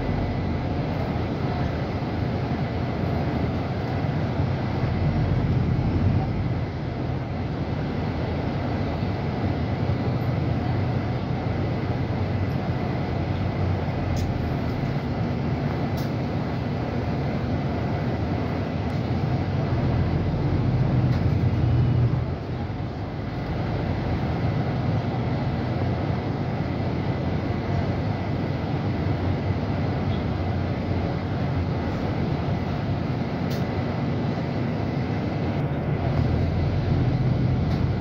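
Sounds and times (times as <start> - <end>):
bus diesel engine and road noise: 0.0 - 38.0.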